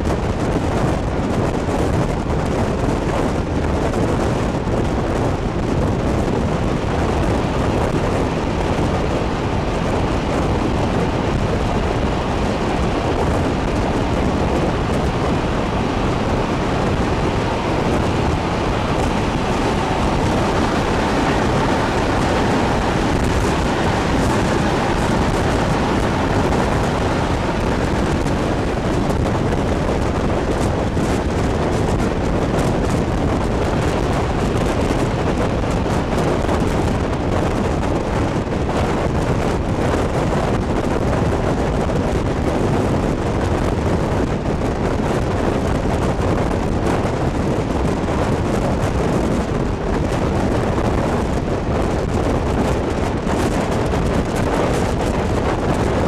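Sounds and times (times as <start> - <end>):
train running rumble: 0.0 - 56.0
wind buffeting microphone: 0.0 - 56.0.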